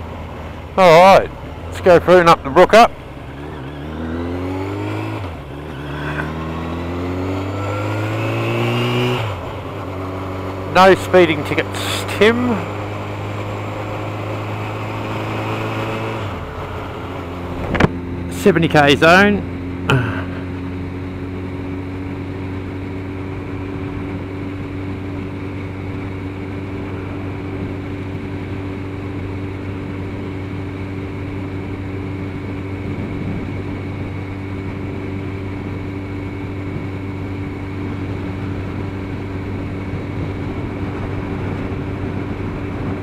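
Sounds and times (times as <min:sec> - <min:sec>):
motorcycle engine cruising: 0:00.0 - 0:43.0
road and wind noise: 0:00.0 - 0:43.0.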